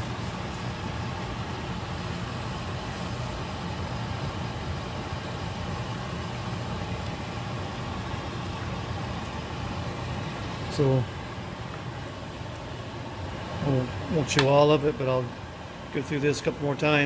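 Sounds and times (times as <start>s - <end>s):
water boiling in a pot: 0.0s - 17.0s.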